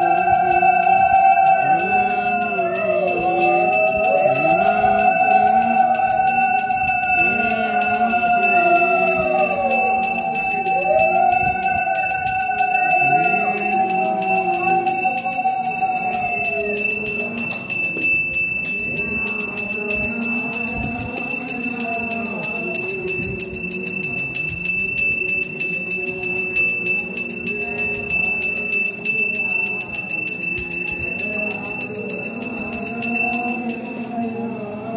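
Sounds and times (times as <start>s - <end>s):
hand bell ringing rapidly: 0.0s - 34.7s
voices: 0.0s - 34.9s.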